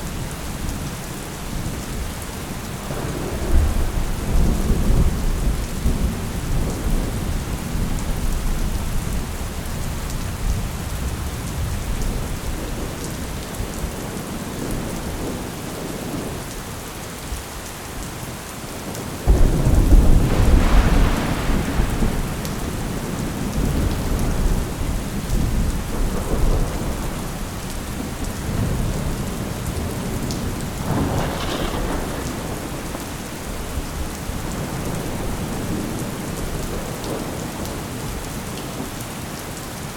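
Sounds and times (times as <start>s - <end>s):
steady rain: 0.0s - 39.9s
thunder rumble and claps: 1.7s - 16.6s, 18.9s - 38.9s.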